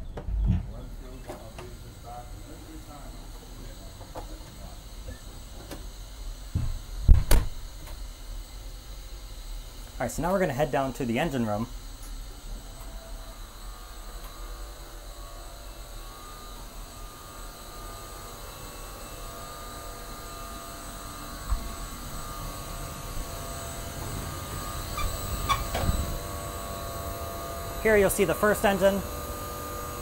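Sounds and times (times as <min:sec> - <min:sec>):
machinery hum with high whine: 0:00.0 - 0:30.0.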